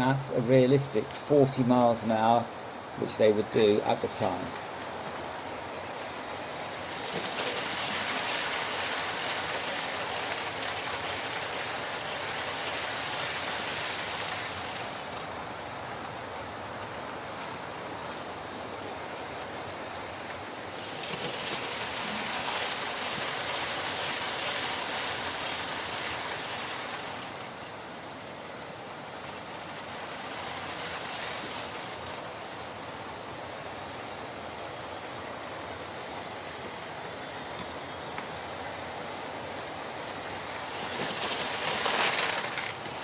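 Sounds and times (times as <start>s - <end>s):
model train rattling on track: 0.0s - 43.0s.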